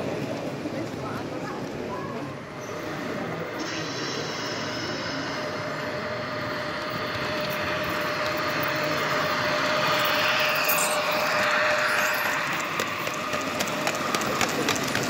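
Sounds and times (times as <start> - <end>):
model electric train running: 0.0 - 15.0.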